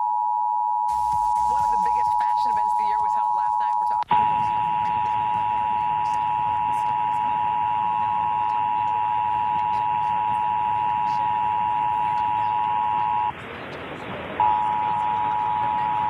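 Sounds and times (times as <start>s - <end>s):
two-tone alarm: 0.0s - 13.4s, 14.4s - 16.0s
low hum and hiss: 0.9s - 16.0s.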